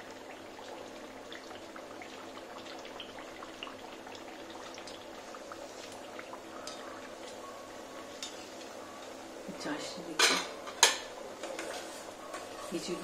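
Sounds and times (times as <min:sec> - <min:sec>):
faint steady hum: 0:00.0 - 0:13.0
oil sizzling and crackling: 0:00.0 - 0:13.0.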